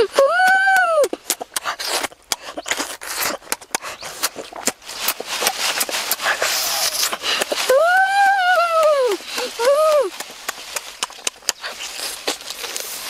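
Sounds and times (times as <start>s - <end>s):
wet mouth eating sounds: 1.0s - 7.7s, 9.2s - 13.0s.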